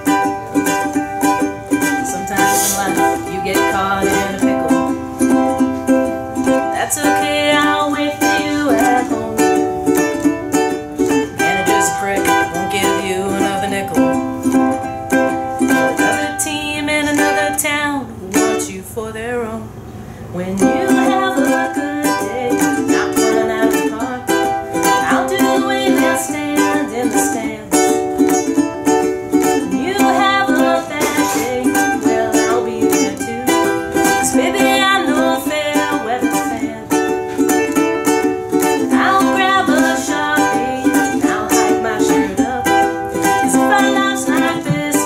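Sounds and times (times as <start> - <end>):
ukulele strumming: 0.0 - 19.6, 20.3 - 45.0.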